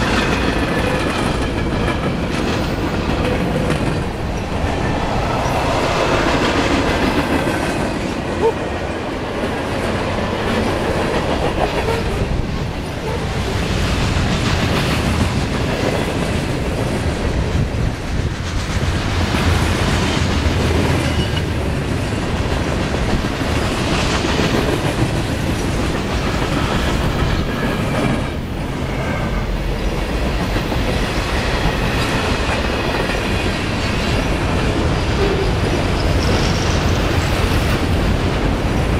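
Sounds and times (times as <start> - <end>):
train wheels clicking on rail joints: 0.0 - 8.5, 9.2 - 38.9
freight train rumble: 0.0 - 38.9.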